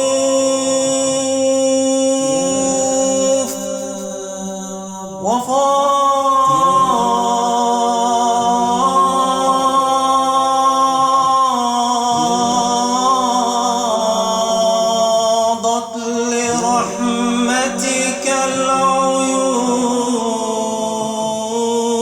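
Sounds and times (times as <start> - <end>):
man chanting unaccompanied: 0.0 - 22.0.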